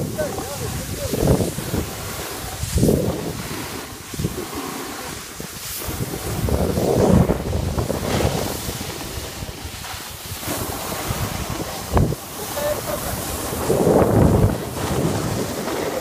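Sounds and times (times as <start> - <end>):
snowboard scraping over snow: 0.0 - 16.0
wind on microphone: 0.0 - 16.0.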